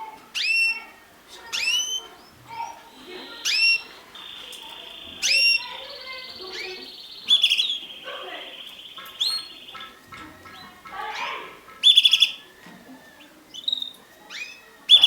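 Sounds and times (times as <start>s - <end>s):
canaries rising calls: 0.0s - 15.0s
canary rolling trill: 1.4s - 15.0s.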